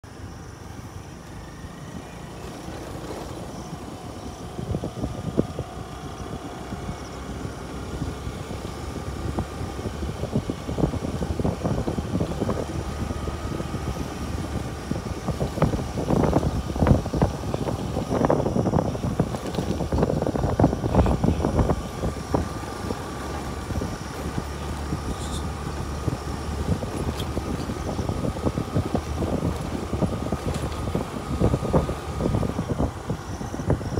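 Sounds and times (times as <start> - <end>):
vehicle engine rumble: 0.0 - 33.9.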